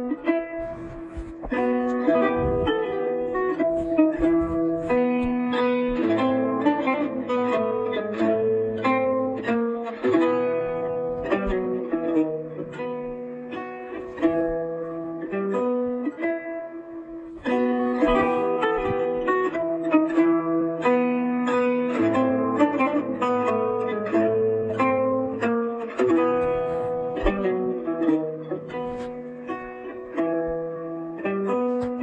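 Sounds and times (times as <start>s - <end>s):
plucked string melody: 0.0s - 32.0s.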